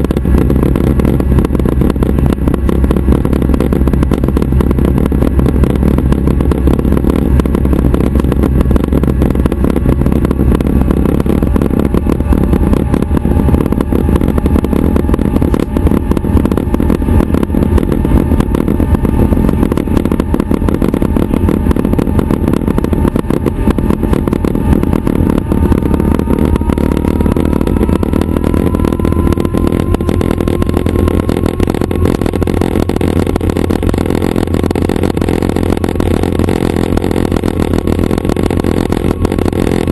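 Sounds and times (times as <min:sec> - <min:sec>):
faint rising whine: 0:00.0 - 0:39.9
helicopter engine and rotor: 0:00.0 - 0:39.9.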